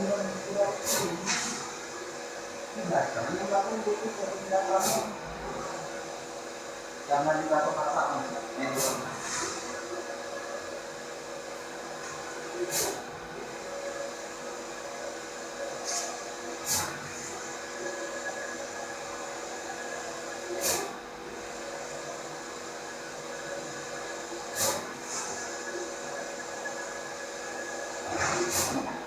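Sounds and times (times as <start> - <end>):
printer mechanical hum: 0.0 - 29.0.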